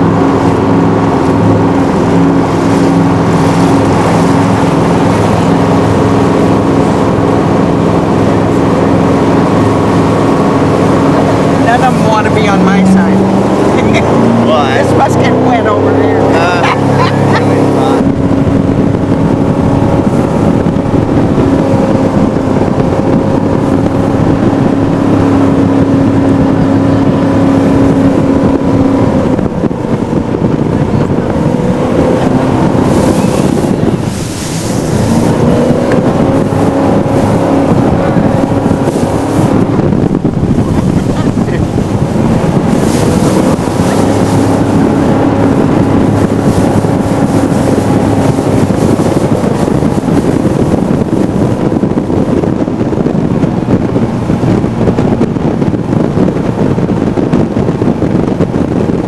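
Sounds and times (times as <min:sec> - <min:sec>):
boat engine drone: 0:00.0 - 0:59.0
rushing water: 0:00.0 - 0:59.0
wind on microphone: 0:00.0 - 0:59.0.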